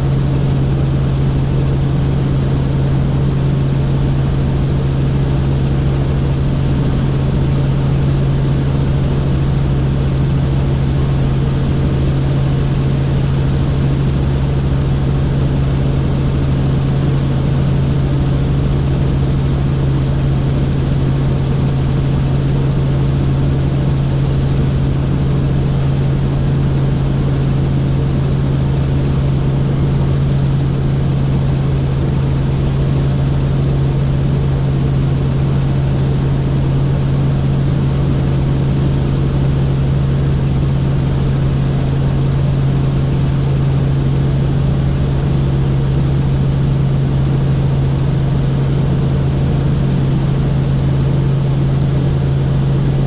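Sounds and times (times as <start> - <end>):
helicopter droning: 0.0 - 53.0.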